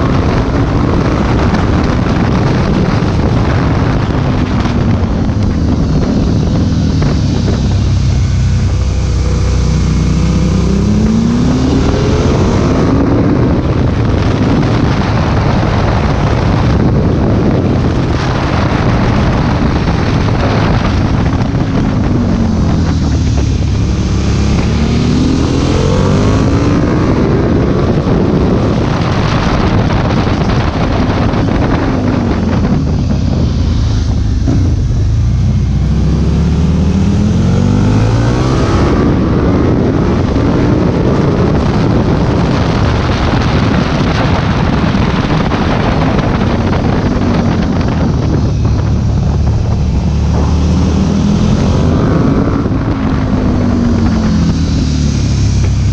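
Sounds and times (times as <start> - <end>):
motorcycle engine revving: 0.0 - 55.9
wind rushing over microphone: 0.0 - 55.9.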